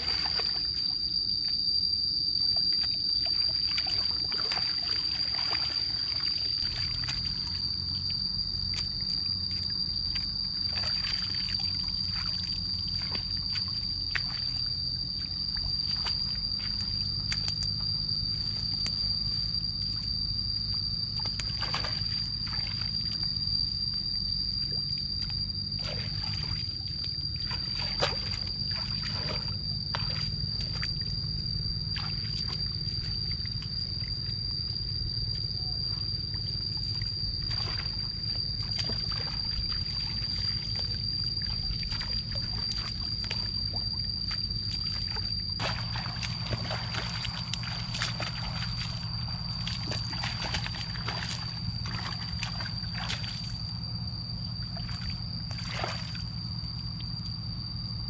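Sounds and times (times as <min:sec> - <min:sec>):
water splashing and sloshing: 0:00.0 - 0:01.6, 0:02.4 - 0:57.5
low hum: 0:00.0 - 0:58.0
steady high-pitched whine: 0:00.0 - 0:58.0.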